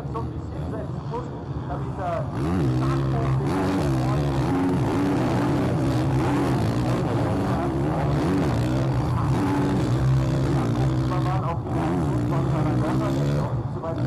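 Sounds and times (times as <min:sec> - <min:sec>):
dirt-bike engines revving: 0:00.0 - 0:14.0.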